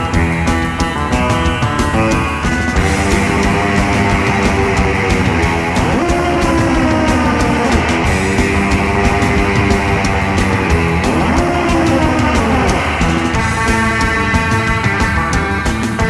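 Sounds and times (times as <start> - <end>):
drum beat: 0.0 - 16.0
electric guitar: 0.0 - 16.0
hard rock music: 0.0 - 16.0.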